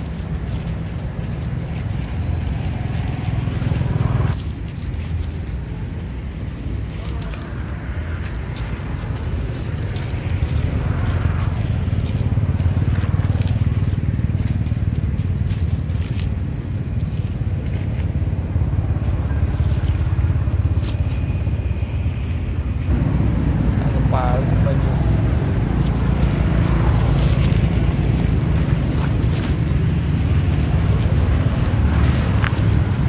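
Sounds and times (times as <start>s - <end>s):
dry leaves crunching: 0.0s - 33.0s
steady low rumble: 0.0s - 33.0s.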